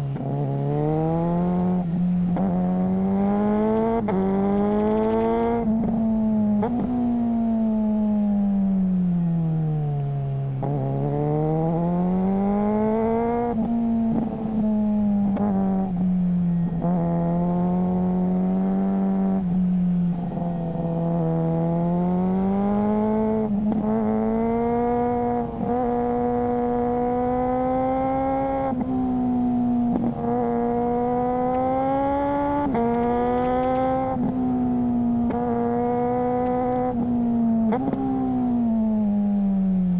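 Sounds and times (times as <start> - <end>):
motorcycle engine under way: 0.0 - 8.3, 10.5 - 19.6, 20.2 - 39.9.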